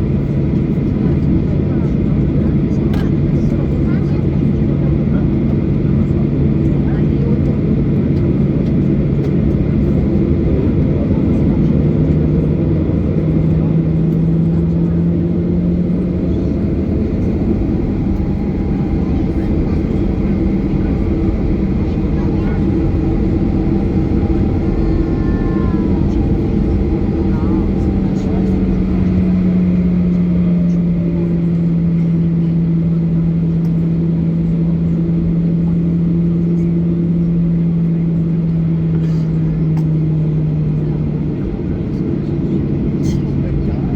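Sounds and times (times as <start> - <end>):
airplane cabin engine rumble: 0.0 - 43.9
low hum: 0.0 - 43.9.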